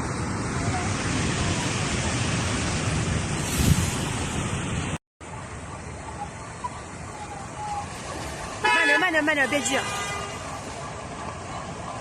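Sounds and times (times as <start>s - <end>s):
heavy rain and floodwater rushing: 0.0s - 12.0s.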